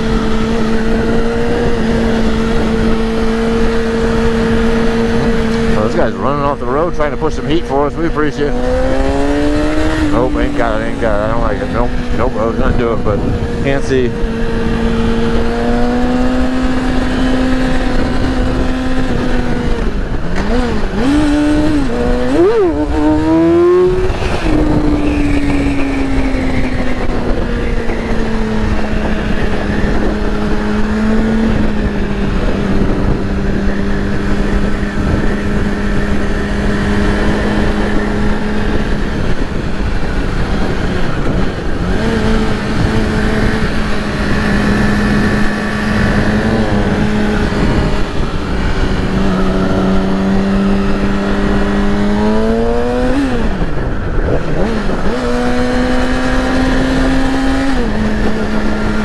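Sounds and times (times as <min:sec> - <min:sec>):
motorcycle engine revving: 0:00.0 - 0:59.0
wind rush over microphone: 0:00.0 - 0:59.0.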